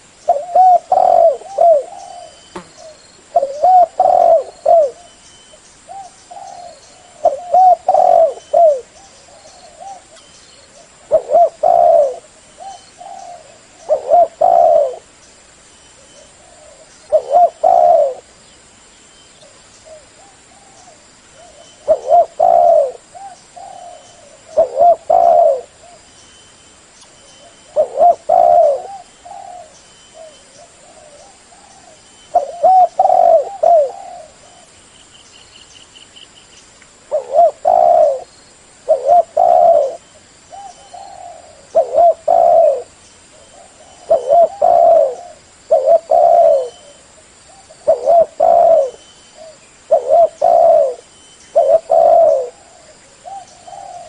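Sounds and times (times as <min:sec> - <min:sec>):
dove cooing: 0:00.0 - 0:05.2, 0:05.9 - 0:15.1, 0:16.0 - 0:18.3, 0:19.8 - 0:26.0, 0:27.4 - 0:34.7, 0:37.1 - 0:38.3, 0:38.9 - 0:54.0.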